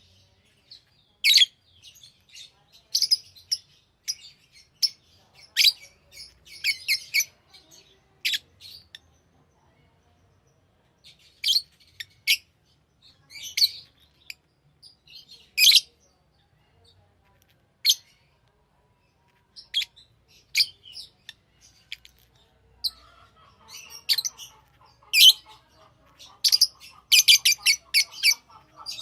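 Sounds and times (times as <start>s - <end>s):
lovebirds chirping: 0.0s - 29.0s.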